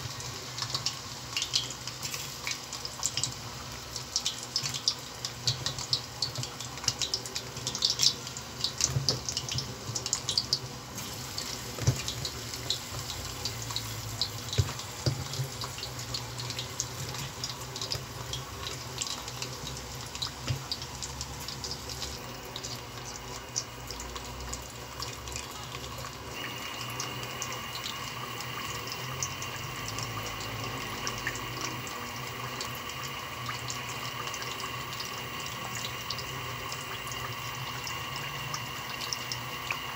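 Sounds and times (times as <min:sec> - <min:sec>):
deep-frying sizzle with pops: 0:00.0 - 0:39.9.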